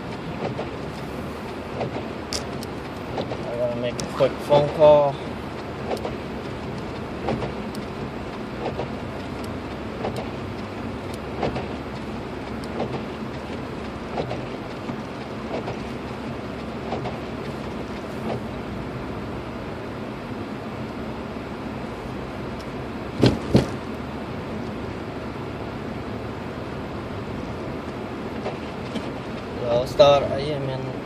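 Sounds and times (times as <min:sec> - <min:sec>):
road and engine noise: 0:00.0 - 0:31.0.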